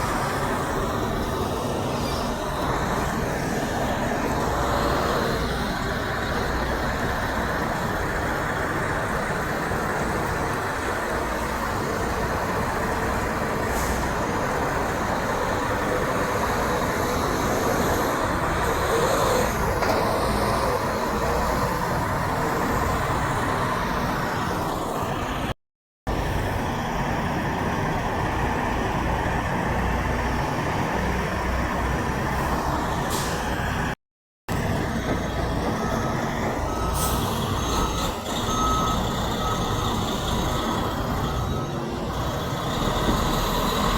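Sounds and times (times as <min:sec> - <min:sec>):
road traffic noise: 0:00.0 - 0:43.9
truck diesel engines rumbling: 0:00.0 - 0:43.9.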